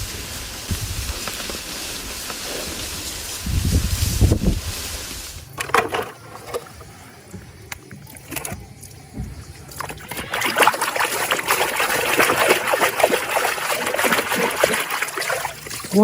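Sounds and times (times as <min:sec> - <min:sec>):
water sloshing and splashing: 0:00.0 - 0:16.0
water trickling and splattering: 0:00.0 - 0:16.0.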